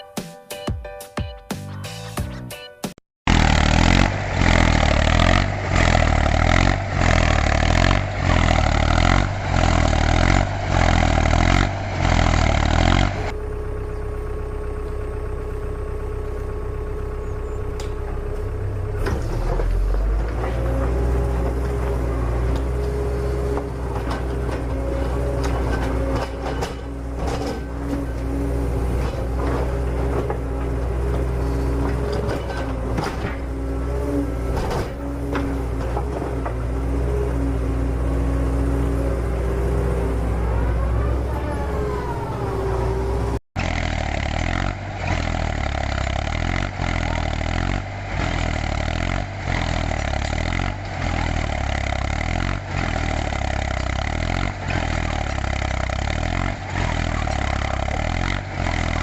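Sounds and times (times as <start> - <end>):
vehicle engine running: 3.3 - 59.0.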